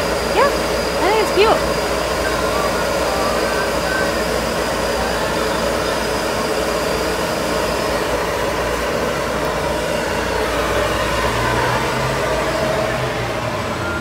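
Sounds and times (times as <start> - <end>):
faint high whine: 0.0 - 14.0
store background noise rushing: 0.0 - 14.0.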